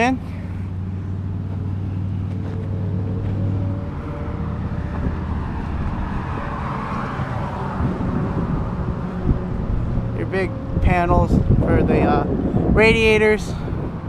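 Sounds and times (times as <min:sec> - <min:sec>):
diesel engine running: 0:00.0 - 0:14.0
rushing noise: 0:02.6 - 0:14.0.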